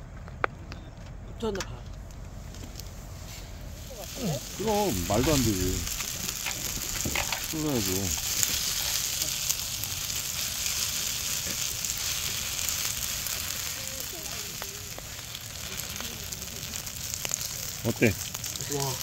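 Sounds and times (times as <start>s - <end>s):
food sizzling on griddle: 3.2s - 19.0s.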